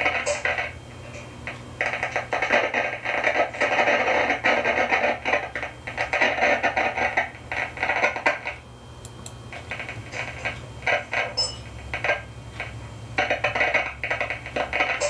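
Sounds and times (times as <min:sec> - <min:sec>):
radio audio breaking up: 0:00.0 - 0:08.6, 0:09.4 - 0:15.0
steady low hum: 0:00.0 - 0:15.0.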